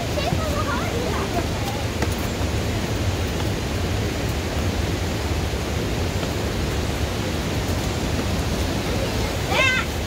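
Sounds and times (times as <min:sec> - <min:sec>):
waterfall roar: 0:00.0 - 0:10.0.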